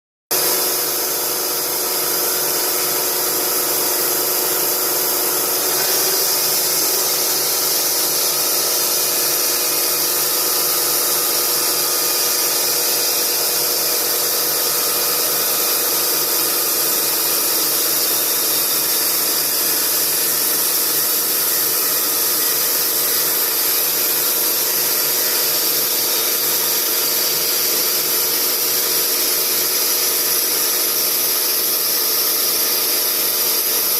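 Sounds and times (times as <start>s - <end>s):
chainsaw cutting through log: 0.3s - 33.9s.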